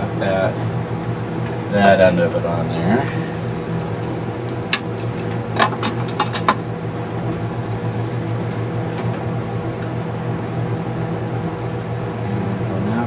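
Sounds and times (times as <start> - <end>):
low hum: 0.6 - 12.9.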